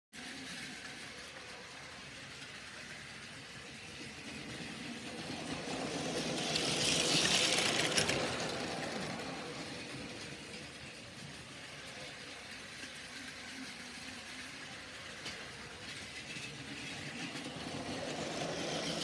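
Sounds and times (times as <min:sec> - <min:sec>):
toy train motor whirring: 0:00.2 - 0:19.0.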